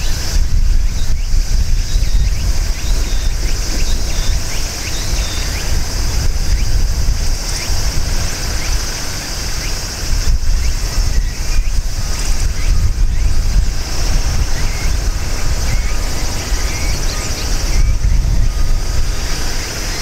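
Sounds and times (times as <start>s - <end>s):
high-pitched buzz: 0.0s - 20.0s
wind buffeting microphone: 0.0s - 20.0s.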